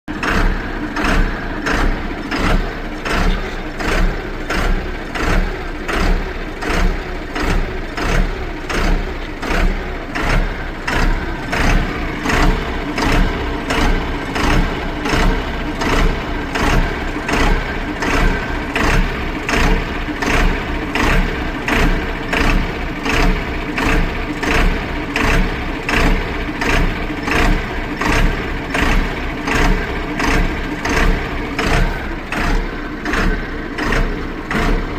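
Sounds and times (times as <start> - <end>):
car engine pulsing: 0.0 - 34.9.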